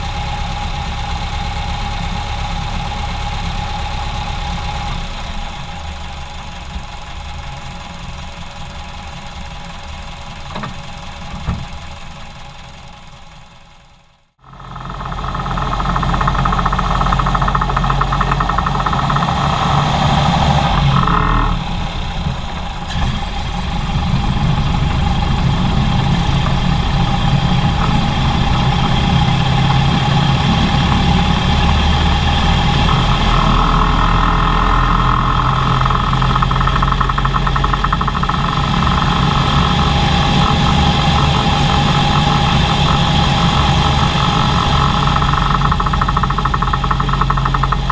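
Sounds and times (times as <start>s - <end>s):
engine misfiring: 0.0s - 47.9s.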